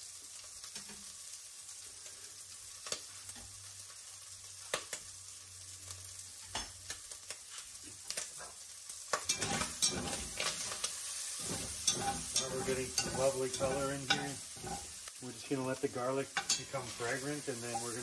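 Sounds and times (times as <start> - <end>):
food sizzling in hot fat: 0.0 - 18.0.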